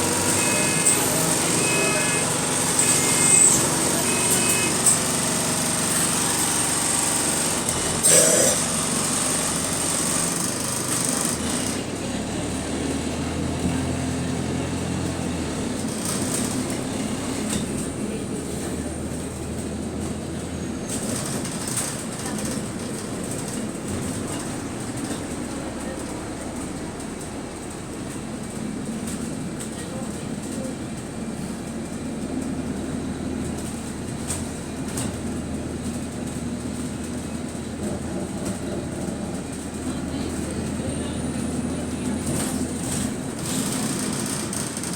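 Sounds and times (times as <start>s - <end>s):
bus engine and road noise: 0.0s - 44.9s.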